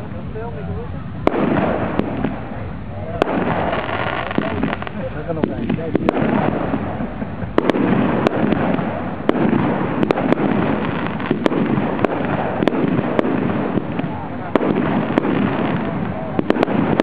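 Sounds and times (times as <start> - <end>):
continuous dense noise: 0.0 - 17.0
fireworks bangs: 0.0 - 17.0.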